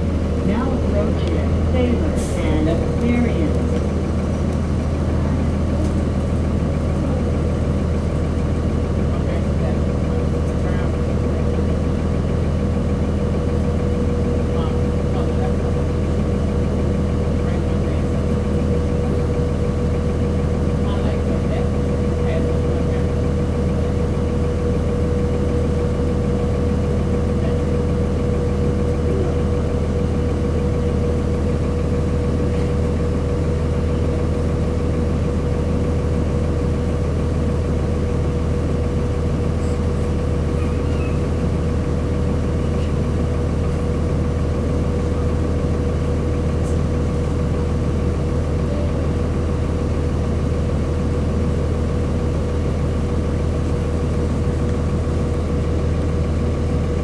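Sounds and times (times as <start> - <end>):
bus diesel engine idling: 0.0 - 57.0.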